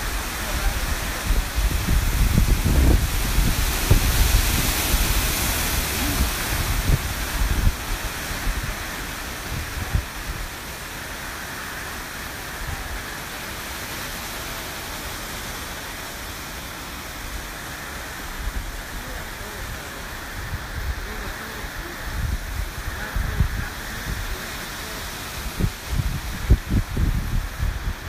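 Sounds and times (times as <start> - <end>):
wind and rain rushing: 0.0 - 28.0
wind gusts buffeting microphone: 0.0 - 28.0.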